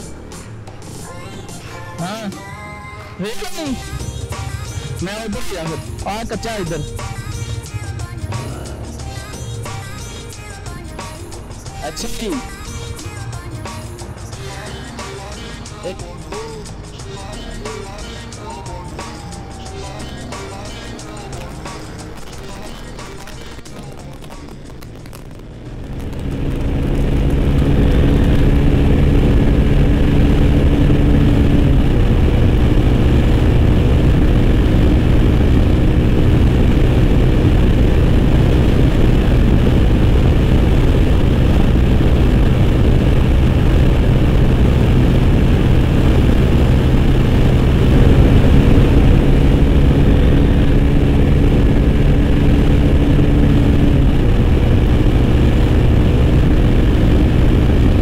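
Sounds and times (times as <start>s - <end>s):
motorcycle engine at speed: 0.0s - 1.6s, 3.6s - 58.0s
wind and road rush: 0.0s - 58.0s.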